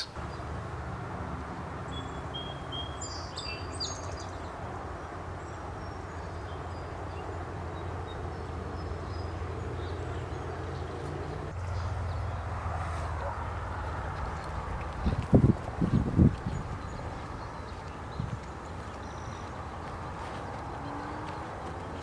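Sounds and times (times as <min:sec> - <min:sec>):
distant road traffic hum: 0:00.0 - 0:22.0
small birds chirping: 0:01.9 - 0:12.6, 0:13.2 - 0:22.0.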